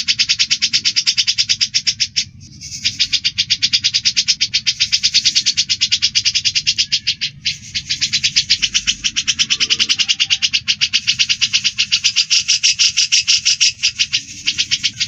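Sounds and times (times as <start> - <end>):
birds chattering: 0.0 - 15.0.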